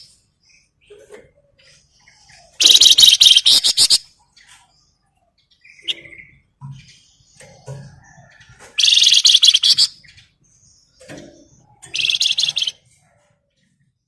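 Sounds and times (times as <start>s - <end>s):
songbird buzzy trills: 0.0s - 12.8s.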